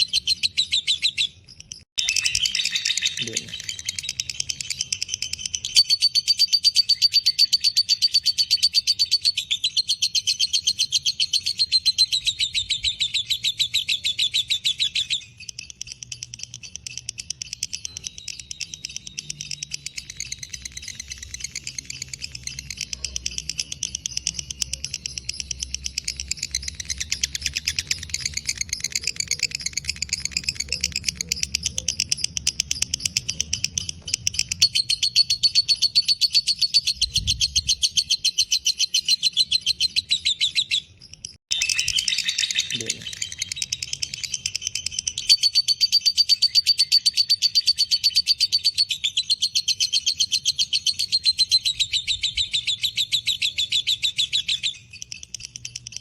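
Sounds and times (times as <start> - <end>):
lovebird chattering: 0.0 - 56.0.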